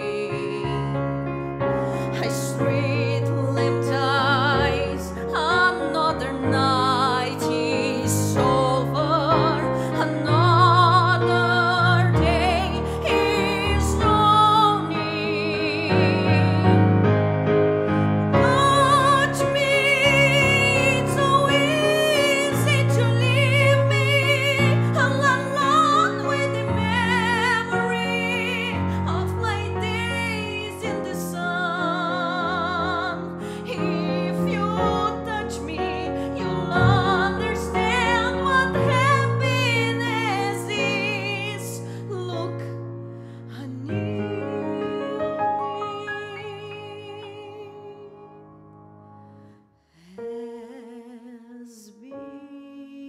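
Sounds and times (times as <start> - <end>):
woman singing ballad: 0.0 - 17.1, 17.9 - 48.4, 50.0 - 53.0.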